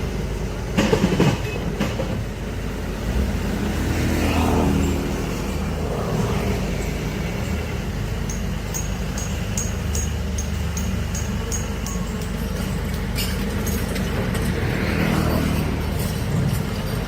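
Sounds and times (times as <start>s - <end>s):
diesel engine running: 2.2s - 17.0s.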